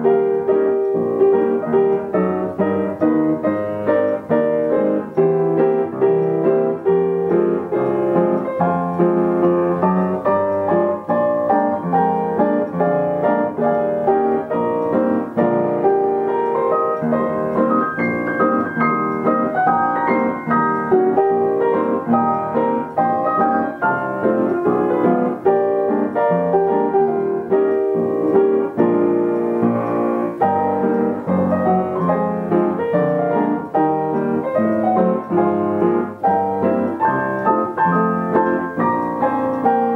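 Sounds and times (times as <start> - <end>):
piano playing a tune: 0.0 - 39.9.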